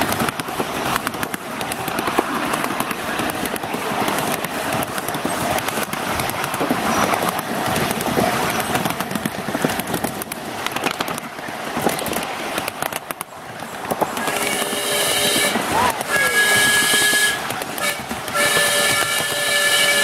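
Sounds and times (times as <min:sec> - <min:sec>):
steel wheels rattling on rail: 0:00.0 - 0:20.0.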